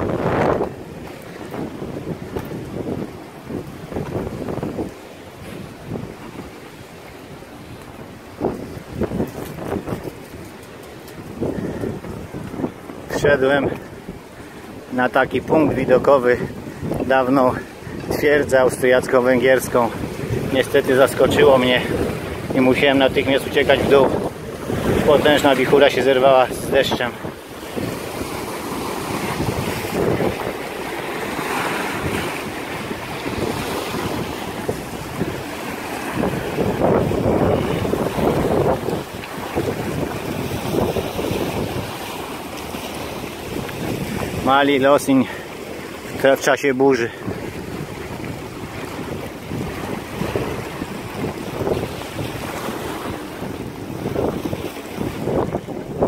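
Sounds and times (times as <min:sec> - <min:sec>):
wind buffeting the microphone: 0:00.0 - 0:56.0.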